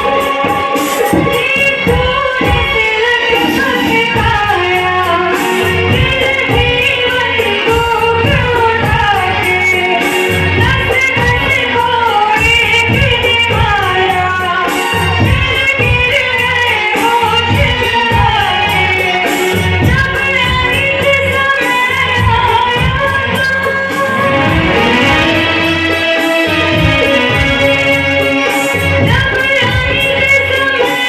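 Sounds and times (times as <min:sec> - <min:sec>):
backing music with steady beat: 0:00.0 - 0:31.0.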